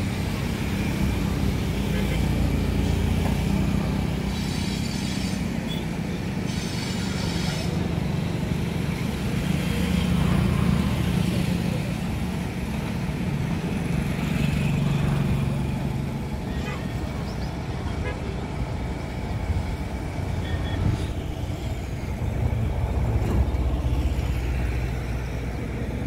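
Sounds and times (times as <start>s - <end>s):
locomotive hum and rumble: 0.0s - 26.0s.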